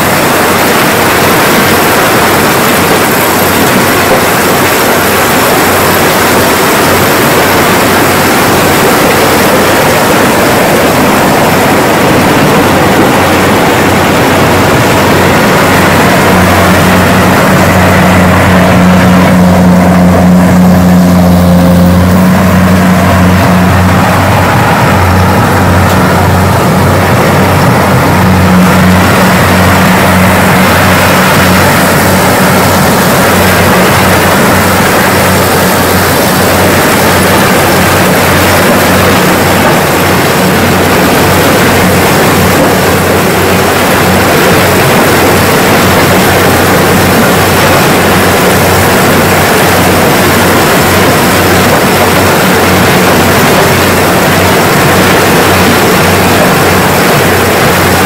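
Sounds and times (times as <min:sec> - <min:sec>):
engine drone: 0:00.0 - 0:58.0
harvester machinery clattering: 0:00.0 - 0:58.0.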